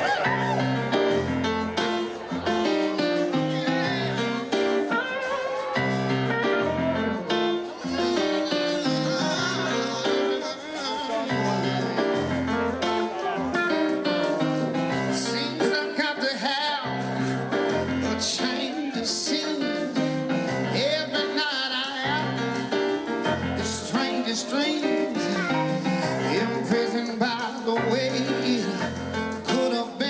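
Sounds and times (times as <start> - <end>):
blues-rock band playing: 0.0 - 30.0
person singing: 0.0 - 30.0.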